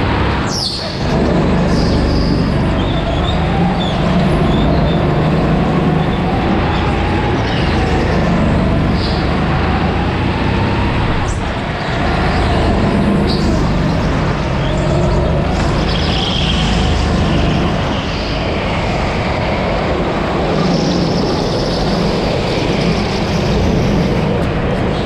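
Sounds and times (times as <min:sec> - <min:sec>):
go-kart engine running hard: 0:00.0 - 0:25.0
wind noise: 0:00.0 - 0:25.0.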